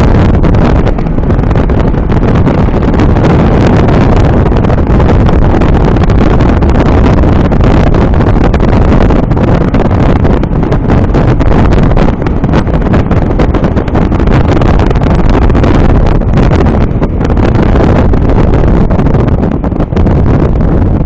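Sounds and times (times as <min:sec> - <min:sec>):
hull rushing through water: 0:00.0 - 0:21.0
outboard motor: 0:00.0 - 0:21.0
wind rumble on microphone: 0:00.0 - 0:21.0.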